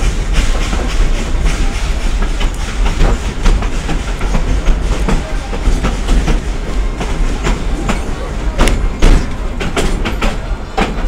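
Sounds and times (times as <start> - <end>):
train rumbling on track: 0.0 - 11.0
wheels clicking over rail joints: 0.0 - 11.0.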